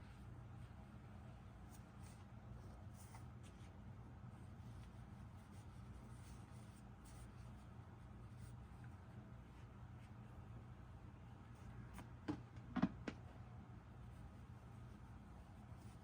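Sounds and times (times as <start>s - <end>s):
rustling of stuffing fiberfill: 0.0s - 12.3s, 13.8s - 16.0s
low steady hum: 0.0s - 16.0s.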